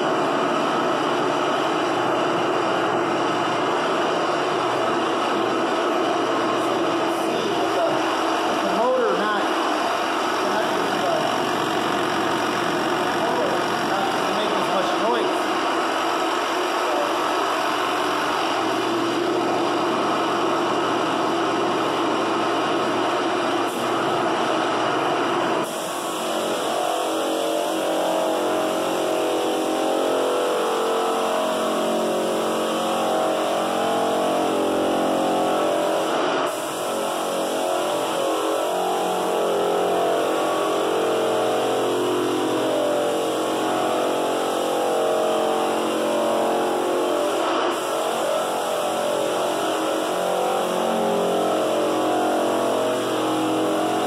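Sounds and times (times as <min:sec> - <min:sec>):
drum floor sander running: 0:00.0 - 0:54.0
shop vacuum running: 0:00.0 - 0:54.0.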